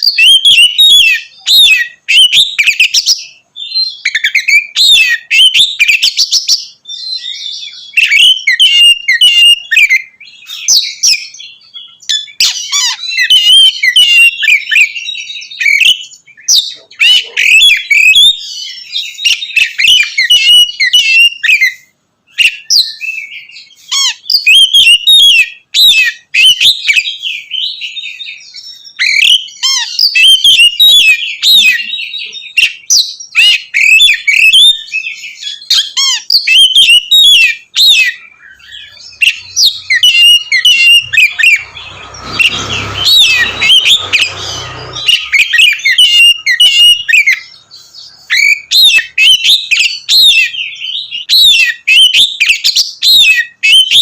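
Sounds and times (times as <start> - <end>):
bird singing loudly: 0.0 - 54.0.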